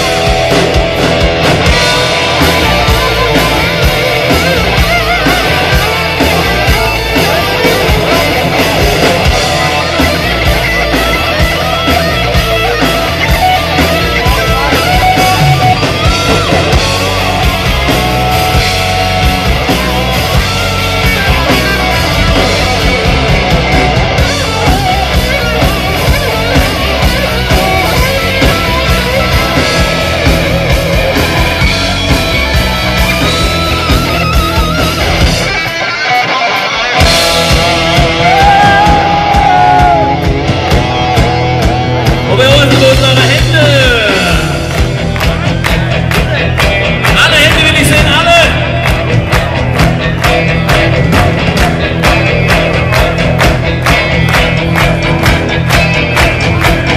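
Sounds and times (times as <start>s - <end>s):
rock band playing loudly: 0.0s - 56.9s.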